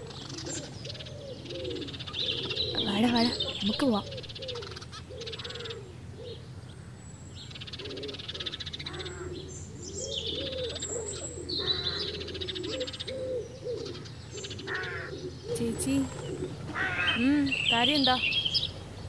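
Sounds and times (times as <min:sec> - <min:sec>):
doves cooing: 0:00.0 - 0:19.0
small birds chirping: 0:00.0 - 0:19.0.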